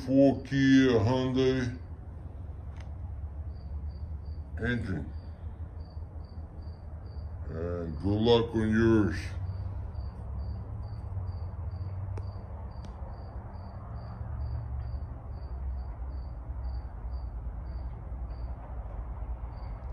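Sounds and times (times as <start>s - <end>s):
cricket chirping: 0.0s - 19.9s
low steady rumble: 0.0s - 19.9s.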